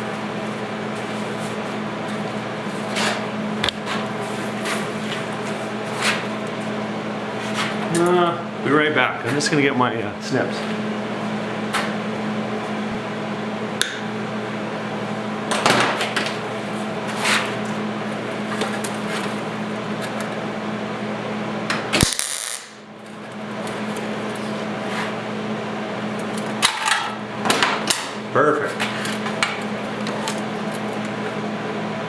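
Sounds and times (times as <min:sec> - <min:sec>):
machinery humming: 0:00.0 - 0:32.0.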